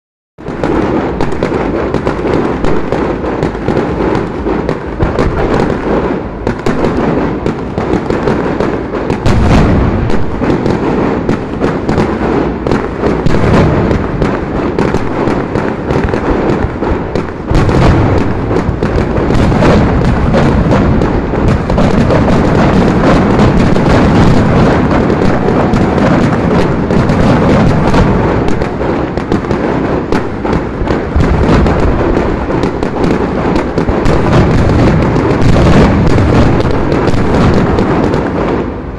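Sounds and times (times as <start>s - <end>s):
fireworks bangs and booms: 0.4s - 38.9s.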